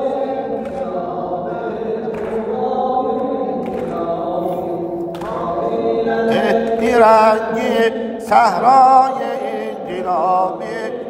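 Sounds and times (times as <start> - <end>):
person chanting unaccompanied: 0.0 - 11.0.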